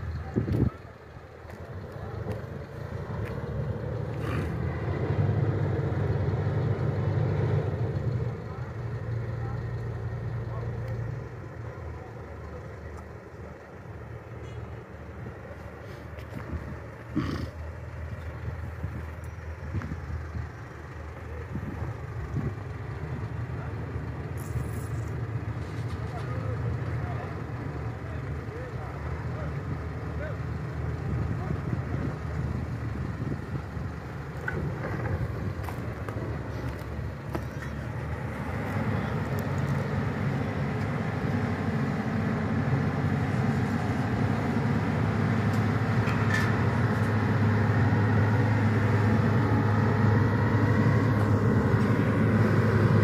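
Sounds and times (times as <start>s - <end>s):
boat engine drone: 0.0s - 25.6s, 32.2s - 53.0s.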